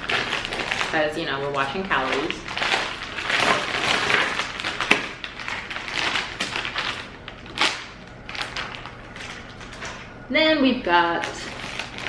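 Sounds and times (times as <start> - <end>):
plastic bag crinkling: 0.0 - 10.2, 11.0 - 12.0.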